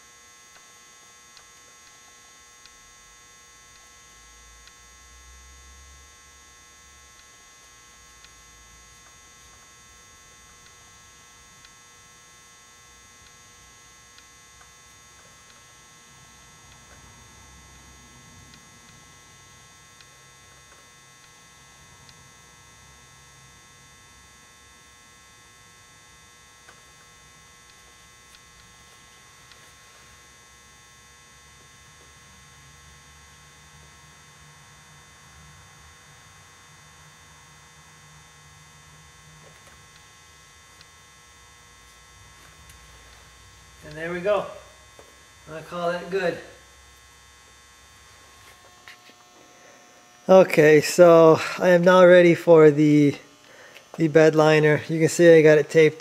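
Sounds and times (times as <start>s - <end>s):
electrical hum with high whine: 0.0s - 56.0s.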